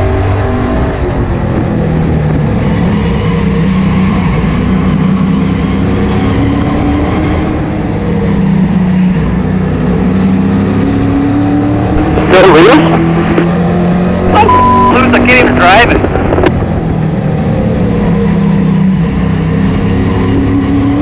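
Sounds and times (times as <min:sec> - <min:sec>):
race car engine revving: 0:00.0 - 0:21.0.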